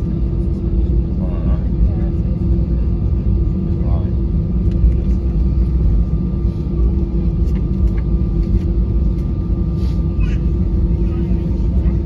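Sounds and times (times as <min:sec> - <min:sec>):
airplane cabin rumble: 0:00.0 - 0:12.0
constant hum: 0:00.0 - 0:12.0.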